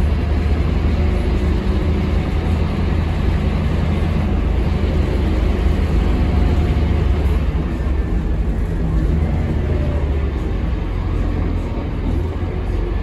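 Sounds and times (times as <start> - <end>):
bus cabin rumble: 0.0 - 13.0
diesel bus engine drone: 0.0 - 13.0.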